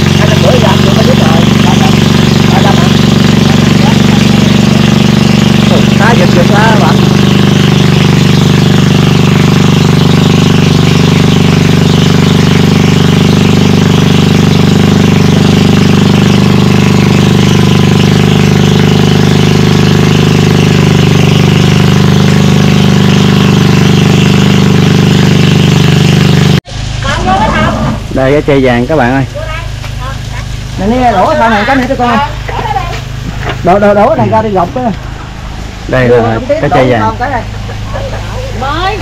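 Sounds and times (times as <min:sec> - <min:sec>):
engine running loud and steady: 0:00.0 - 0:39.0.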